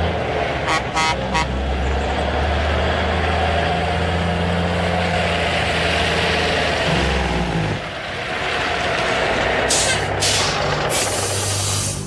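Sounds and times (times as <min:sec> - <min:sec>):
diesel truck engine drone: 0:00.0 - 0:12.0.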